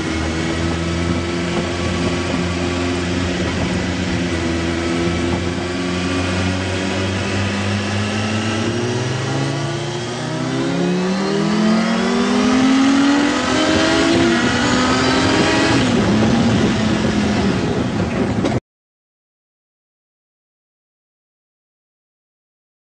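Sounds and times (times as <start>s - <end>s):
motorcycle engine accelerating: 0.0s - 18.6s.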